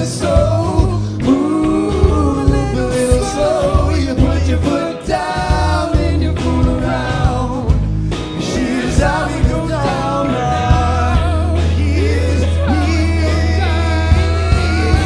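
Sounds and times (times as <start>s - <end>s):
drum beat: 0.0s - 15.0s
heavy bass line: 0.0s - 15.0s
live band music: 0.0s - 15.0s
person singing: 0.0s - 15.0s.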